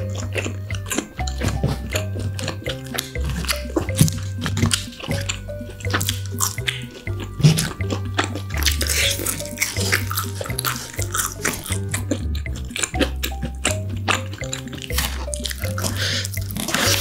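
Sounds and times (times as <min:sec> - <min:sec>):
background music with bass line: 0:00.0 - 0:17.0
chewing and wet mouth clicks: 0:00.0 - 0:17.0.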